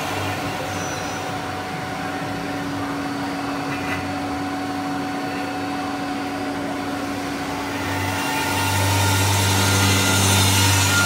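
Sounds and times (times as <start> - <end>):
milling machine hum: 0.0 - 11.0.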